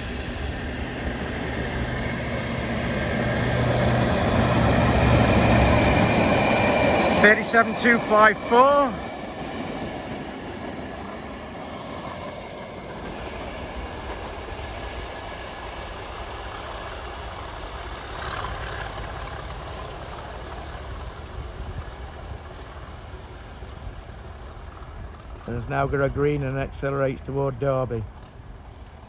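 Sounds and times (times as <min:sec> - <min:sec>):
diesel locomotive engine: 0:00.0 - 0:29.0.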